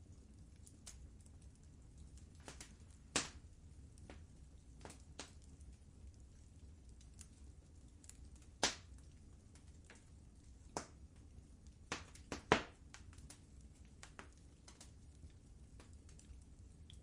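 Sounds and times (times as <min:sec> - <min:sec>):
faint low rumble: 0:00.0 - 0:17.0
wood fire crackling: 0:00.0 - 0:17.0.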